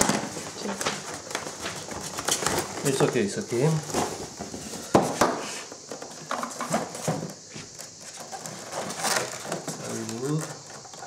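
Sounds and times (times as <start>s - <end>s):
foam packaging knocks and rustles: 0.0s - 11.0s.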